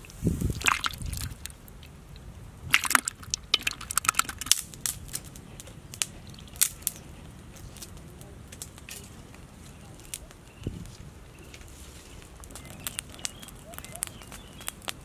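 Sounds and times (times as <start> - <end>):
wet clicks and crackles in mud: 0.0 - 15.0.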